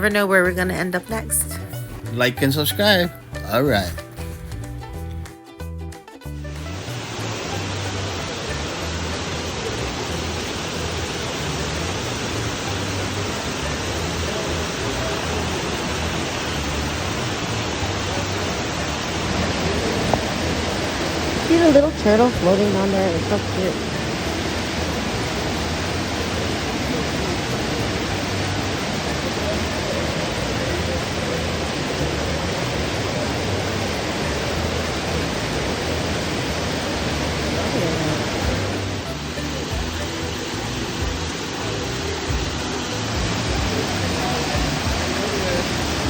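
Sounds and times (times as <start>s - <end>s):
waterfall pouring into pond: 6.5s - 46.0s.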